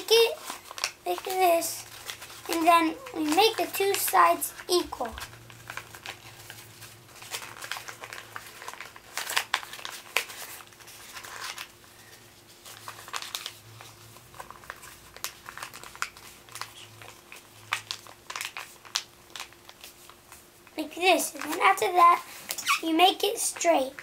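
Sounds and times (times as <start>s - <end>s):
paper rustling and crinkling: 0.0s - 24.0s.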